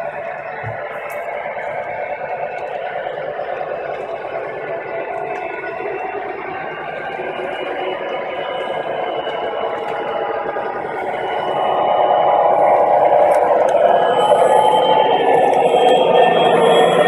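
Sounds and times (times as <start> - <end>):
model train diesel engine sound: 0.0 - 17.0
model train wheels rolling: 0.0 - 17.0.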